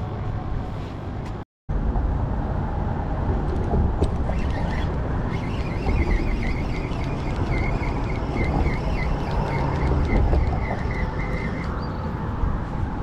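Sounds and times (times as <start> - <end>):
traffic rumble: 0.0 - 13.0
wind: 0.0 - 13.0.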